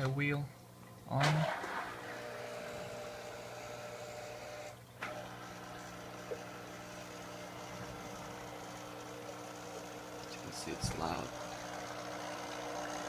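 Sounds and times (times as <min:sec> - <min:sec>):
aquarium filter motor hum: 0:00.0 - 0:13.0.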